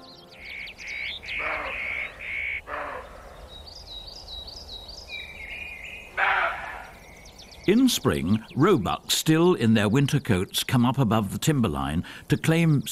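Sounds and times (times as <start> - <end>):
harsh bird calls: 0.0 - 12.9
wild birds calling: 0.0 - 12.9.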